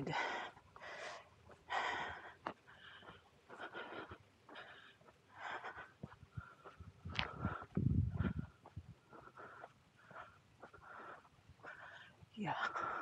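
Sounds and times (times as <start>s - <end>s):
person breathing hard: 0.1s - 13.0s.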